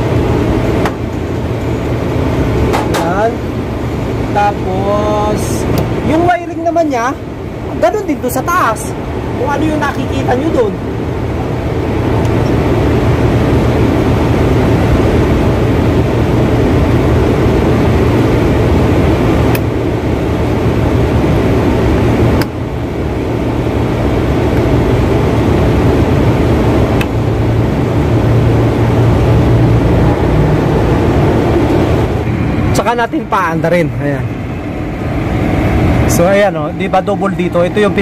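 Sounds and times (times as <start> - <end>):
air-conditioning machinery humming: 0.0 - 38.0.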